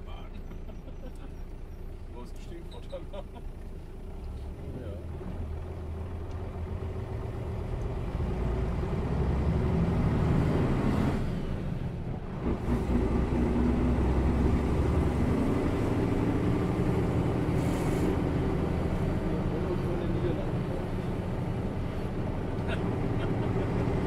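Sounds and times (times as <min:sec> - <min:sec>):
bus diesel engine: 0:00.0 - 0:24.0
road noise: 0:00.0 - 0:24.0.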